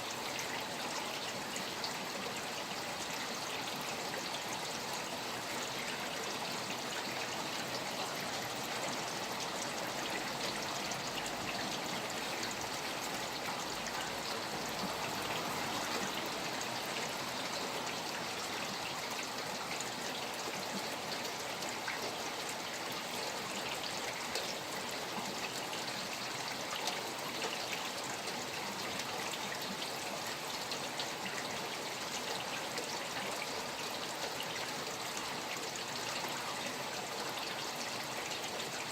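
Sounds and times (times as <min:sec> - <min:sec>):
rain falling: 0:00.0 - 0:38.9
running water: 0:00.0 - 0:38.9.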